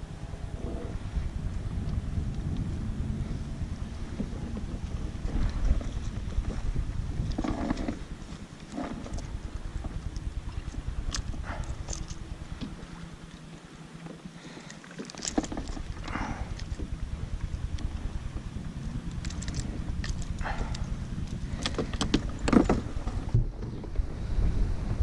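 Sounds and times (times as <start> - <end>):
wind rumbling on microphone: 0.0 - 14.0, 15.2 - 25.0.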